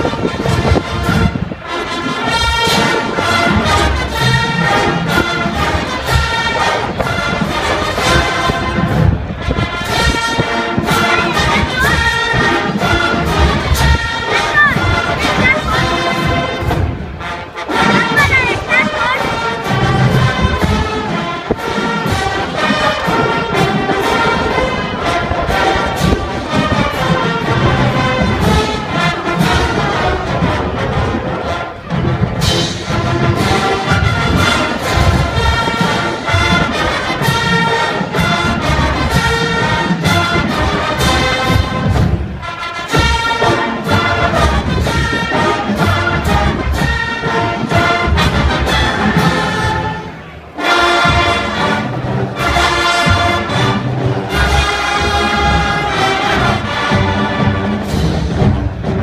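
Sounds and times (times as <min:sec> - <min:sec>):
brass instruments playing: 0:00.0 - 0:59.0
drums: 0:00.0 - 0:59.0.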